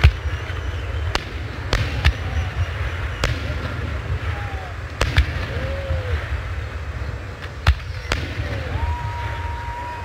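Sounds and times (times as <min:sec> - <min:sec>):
fireworks bursting with bangs: 0:00.0 - 0:10.0
fireworks whistling: 0:00.0 - 0:10.0.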